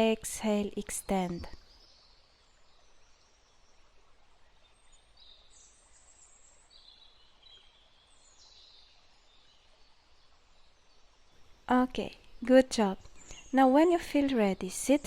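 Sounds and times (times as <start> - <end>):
faint bird chirps: 0.0 - 15.0
soft steady hiss: 0.0 - 15.0.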